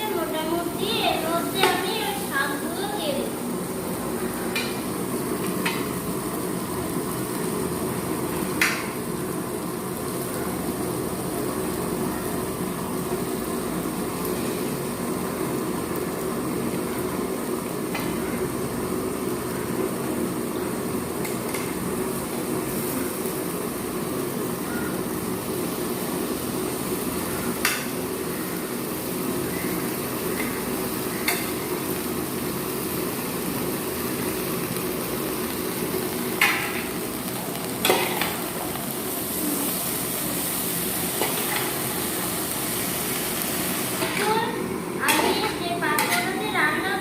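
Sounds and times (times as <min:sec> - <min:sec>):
vegetables sizzling in a pan: 0:00.0 - 0:47.0.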